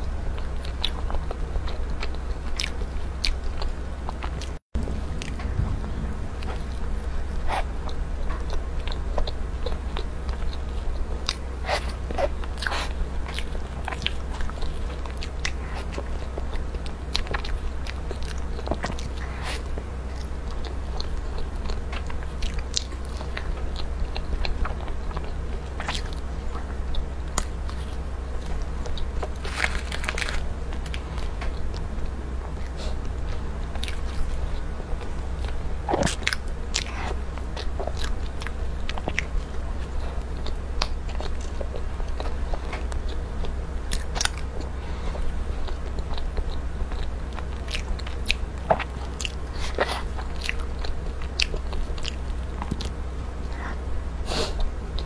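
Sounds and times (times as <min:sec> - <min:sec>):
person chewing cake: 0:00.0 - 0:55.0
steady low hum: 0:00.0 - 0:55.0.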